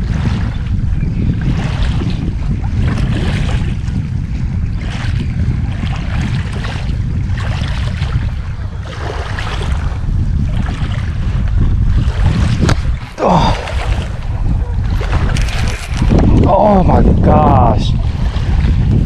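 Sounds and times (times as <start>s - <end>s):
small waves washing on shore: 0.0s - 19.0s
wind buffeting microphone: 0.0s - 19.0s.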